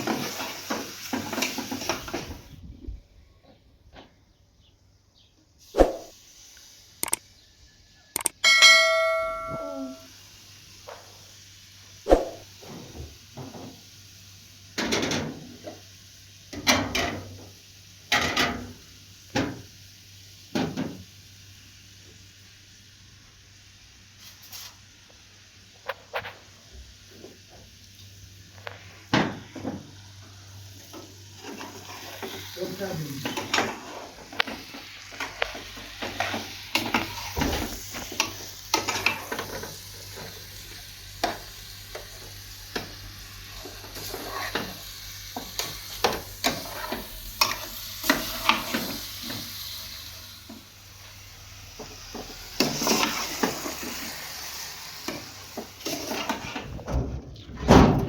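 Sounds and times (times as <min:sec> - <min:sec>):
steady hiss: 0:05.6 - 0:08.1, 0:09.6 - 0:16.6, 0:17.2 - 0:56.6.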